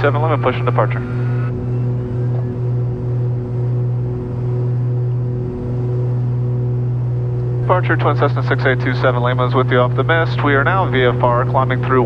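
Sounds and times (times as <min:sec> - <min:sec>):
aircraft engines droning in cabin: 0:00.0 - 0:12.0.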